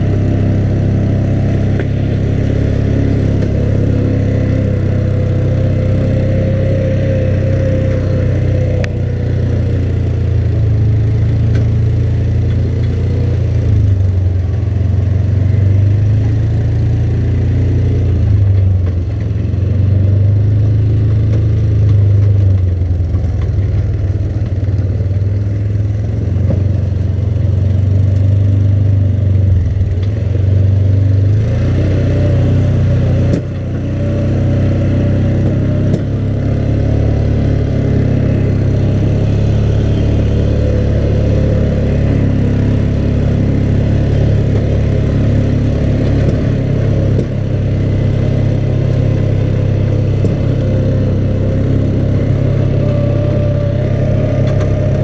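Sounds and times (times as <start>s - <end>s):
atv engine droning: 0.0s - 55.0s.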